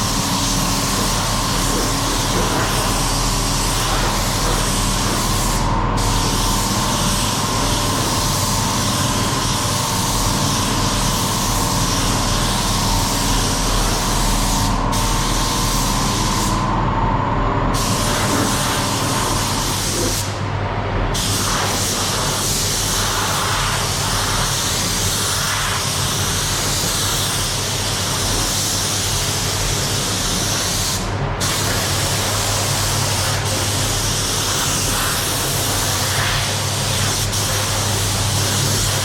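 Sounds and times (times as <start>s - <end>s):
paint spray gun hissing: 0.0s - 16.6s, 17.8s - 20.3s, 21.2s - 39.0s.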